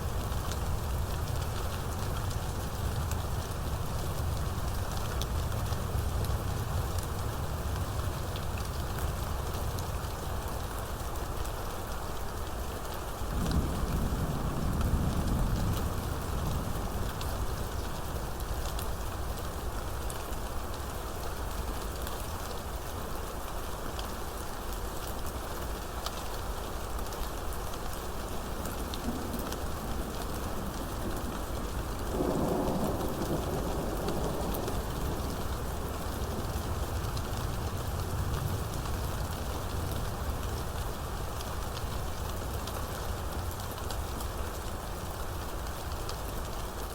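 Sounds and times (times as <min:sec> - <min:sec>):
rain falling on surfaces: 0:00.0 - 0:46.9.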